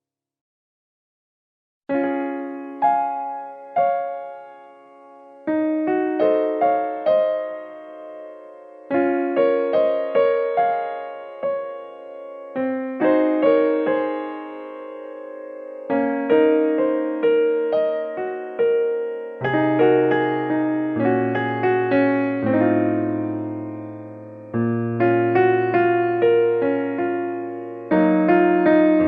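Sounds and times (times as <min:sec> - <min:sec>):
gentle piano melody: 0:01.9 - 0:29.0.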